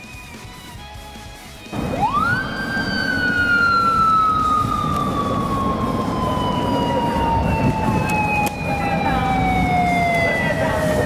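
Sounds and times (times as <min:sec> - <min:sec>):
motorcycle siren wail: 0:01.7 - 0:11.0.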